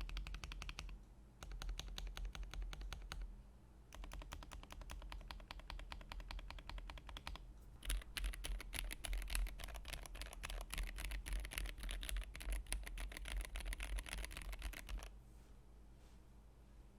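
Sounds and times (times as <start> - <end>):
fast typing on mechanical keyboard: 0.0 - 3.3, 3.9 - 15.1.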